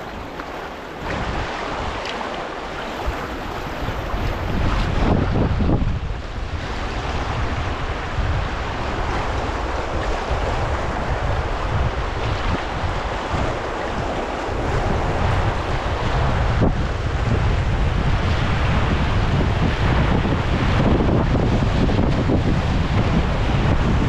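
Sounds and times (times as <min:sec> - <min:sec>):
river water rushing and splashing: 0:00.0 - 0:24.0
wind buffeting the microphone: 0:00.0 - 0:24.0.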